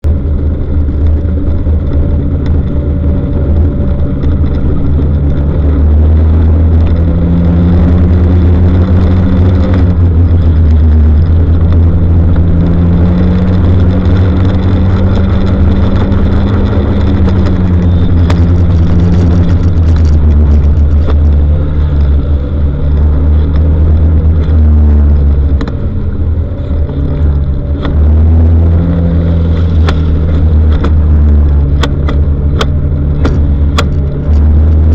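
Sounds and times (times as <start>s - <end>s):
vehicle engine drone: 0.0s - 34.9s.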